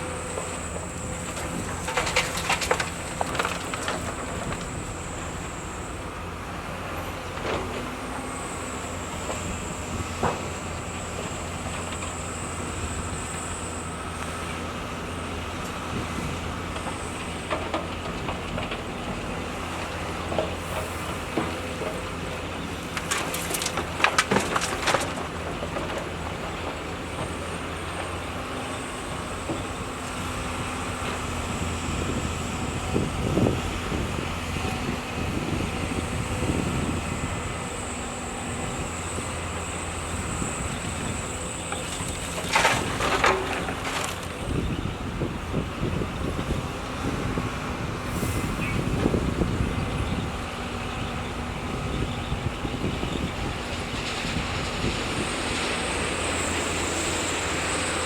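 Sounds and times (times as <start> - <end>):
diesel excavator running: 0.0 - 58.0.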